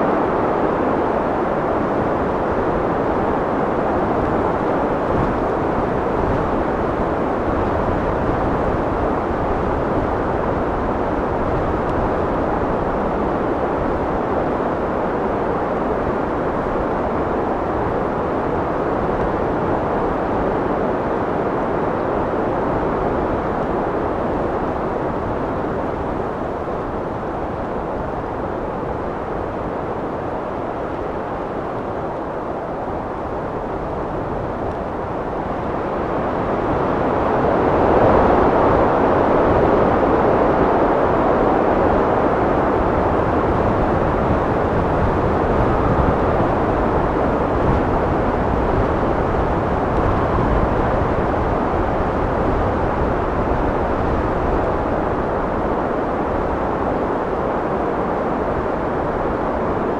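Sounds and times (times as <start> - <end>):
wind blowing: 1.8 - 59.9.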